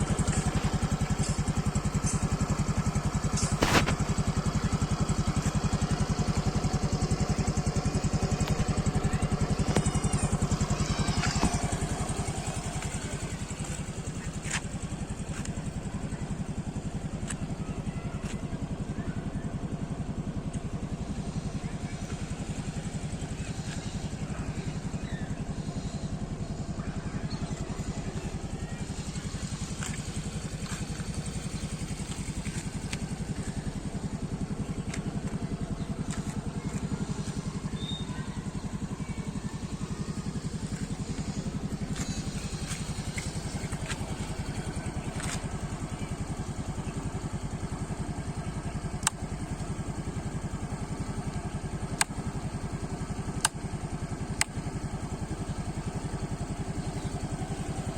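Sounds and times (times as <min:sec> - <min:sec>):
scooter engine idling: 0:00.0 - 0:57.9.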